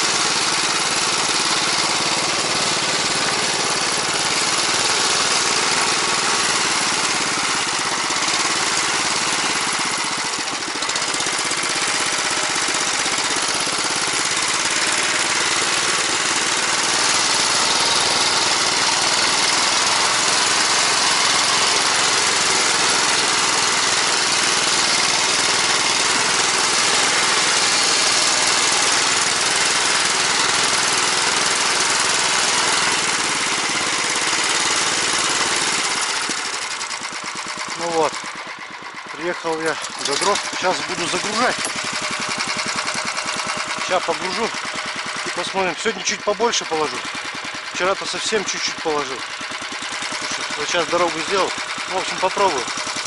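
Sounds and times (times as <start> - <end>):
snow tow engine running: 0.0 - 53.0.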